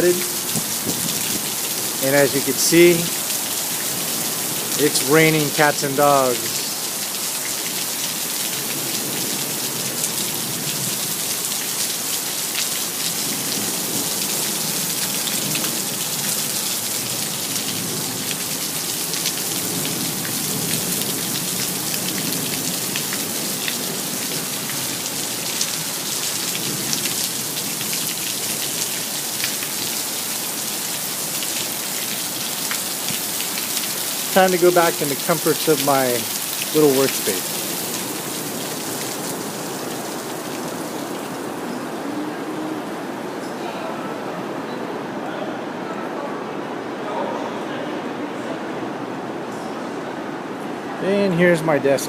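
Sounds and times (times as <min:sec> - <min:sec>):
raindrops pattering on surfaces: 0:00.0 - 0:43.5
heavy rain pouring: 0:00.0 - 0:52.0.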